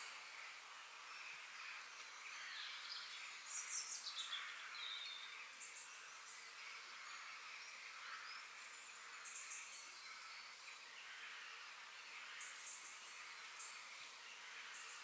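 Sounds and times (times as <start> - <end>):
soft steady hiss: 0.0 - 15.0.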